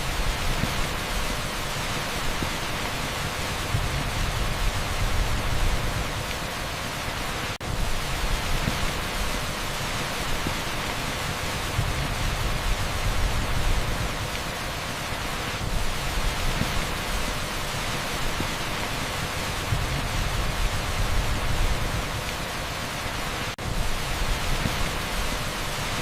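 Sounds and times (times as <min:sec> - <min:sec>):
torrential rain on asphalt: 0:00.0 - 0:26.0.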